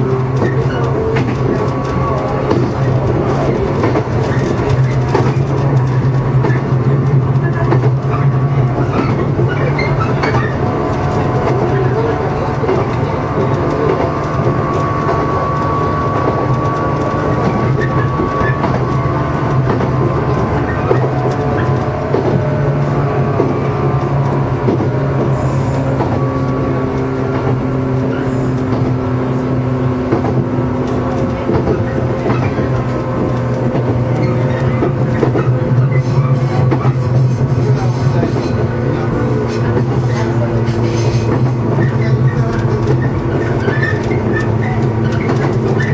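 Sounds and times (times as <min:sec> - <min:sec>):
electric train motors humming: 0:00.0 - 0:45.9
wheels rumbling on rails: 0:00.0 - 0:45.9.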